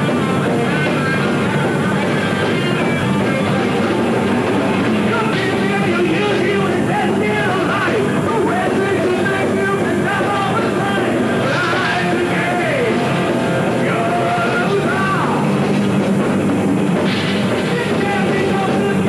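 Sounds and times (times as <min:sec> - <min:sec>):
bass guitar: 0:00.0 - 0:19.0
distorted electric guitar: 0:00.0 - 0:19.0
drum kit: 0:00.0 - 0:19.0.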